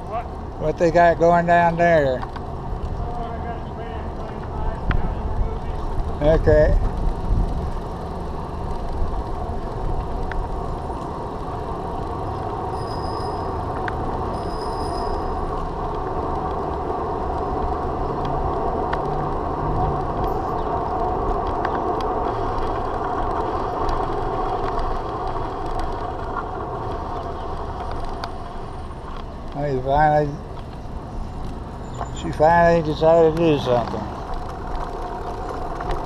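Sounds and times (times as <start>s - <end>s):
bicycle rumble and wind: 0.0s - 36.0s.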